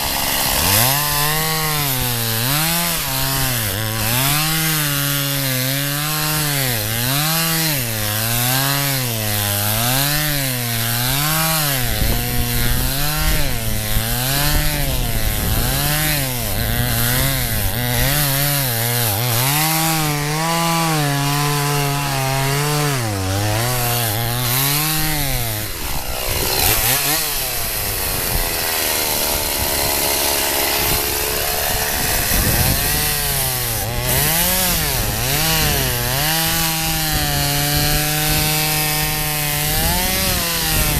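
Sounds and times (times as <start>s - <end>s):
chainsaw cutting ice: 0.0s - 40.9s.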